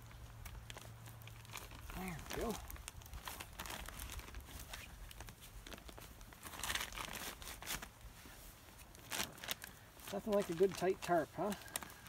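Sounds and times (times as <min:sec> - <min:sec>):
plastic tarp crinkling: 0:00.0 - 0:12.0.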